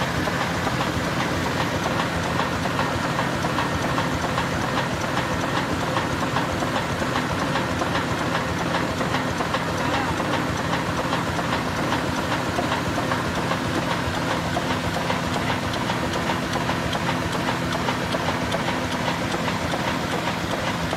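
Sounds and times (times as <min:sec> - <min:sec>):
diesel engine knocking: 0:00.0 - 0:20.9.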